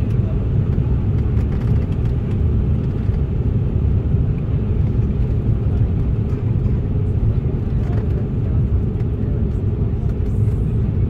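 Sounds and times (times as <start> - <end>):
aircraft rolling along taxiway: 0.0 - 11.0
jet engines rumbling at taxi power: 0.0 - 11.0.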